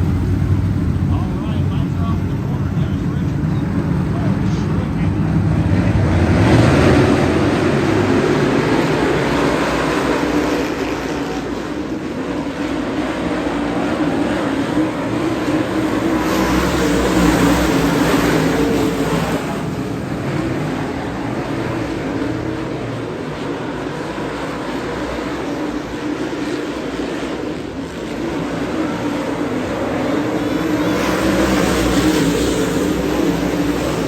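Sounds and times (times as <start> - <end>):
race car engines running hard: 0.0 - 34.0.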